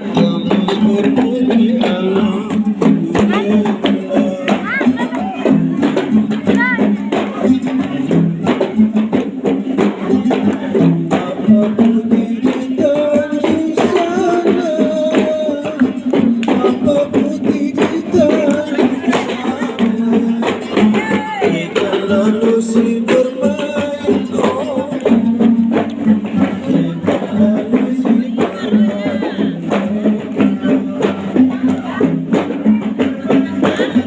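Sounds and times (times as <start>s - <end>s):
hand percussion: 0.0s - 34.0s
person singing: 0.0s - 34.0s.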